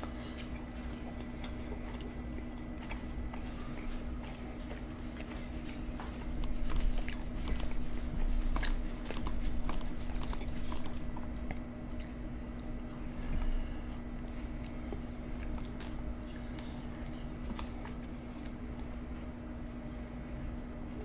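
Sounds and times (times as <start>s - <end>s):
chewing and biting pizza: 0.0s - 21.0s
steady low hum: 0.0s - 21.0s.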